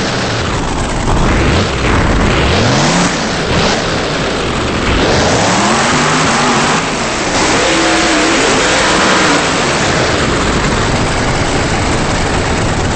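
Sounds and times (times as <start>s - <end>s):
truck engine revving: 0.0s - 12.9s.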